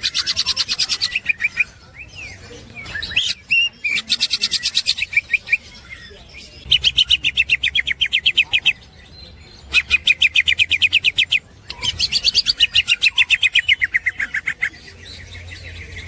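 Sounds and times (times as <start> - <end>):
bird singing rapid chatter: 0.0 - 16.0.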